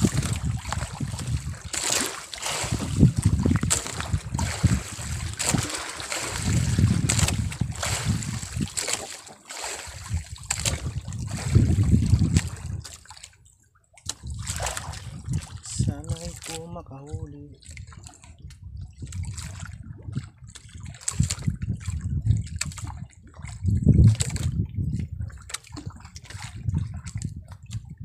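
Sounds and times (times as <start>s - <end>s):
wind rumbling on microphone: 0.0s - 13.1s, 14.0s - 28.0s
water lapping against a boat: 0.0s - 28.0s.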